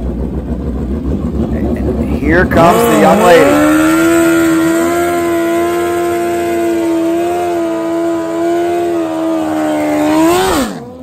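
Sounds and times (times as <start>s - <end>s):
motorcycle engine at high revs: 0.0s - 11.0s.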